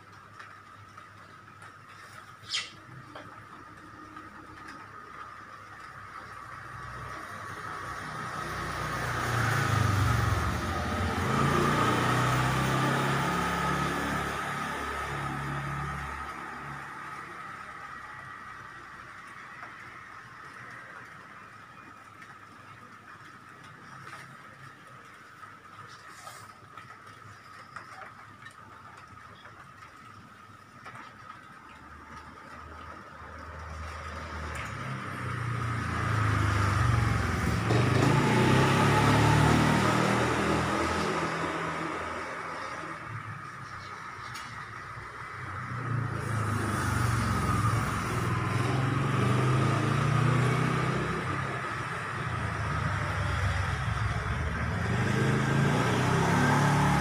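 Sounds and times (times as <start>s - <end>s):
vehicle engine hum: 0.0s - 57.0s.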